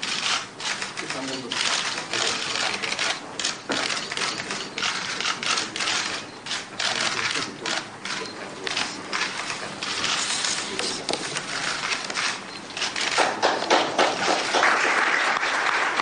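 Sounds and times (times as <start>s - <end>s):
camera shutters clicking: 0.0s - 14.5s.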